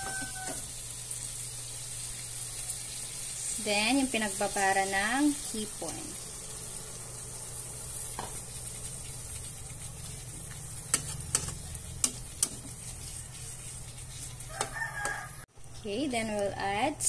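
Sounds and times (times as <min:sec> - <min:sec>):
shrimp sizzling in a pan: 0:00.0 - 0:15.4.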